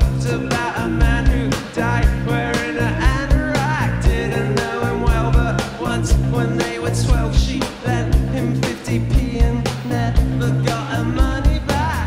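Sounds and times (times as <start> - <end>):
drums steady beat: 0.0 - 12.0
live rock band playing: 0.0 - 12.0
sliding melody line: 0.2 - 12.0.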